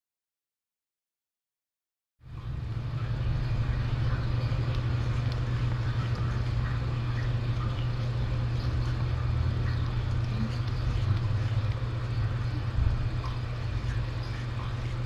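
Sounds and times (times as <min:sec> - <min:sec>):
low hum: 0:02.2 - 0:15.0.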